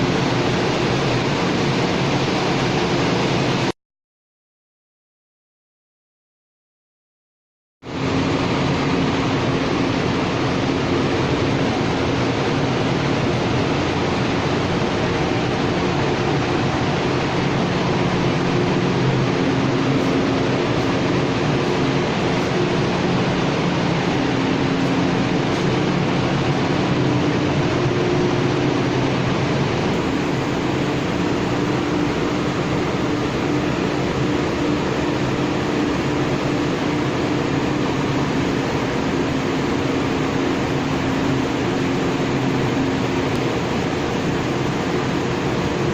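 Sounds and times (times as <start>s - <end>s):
industrial machine running: 0.0s - 3.7s, 7.9s - 45.9s
low hum: 7.9s - 45.9s.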